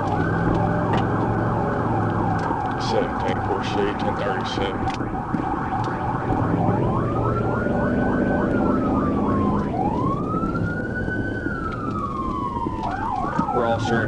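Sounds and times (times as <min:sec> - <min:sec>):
chirping siren warble: 0:00.0 - 0:14.0
engine and road rumble: 0:00.0 - 0:14.0
police siren wailing: 0:00.0 - 0:14.0.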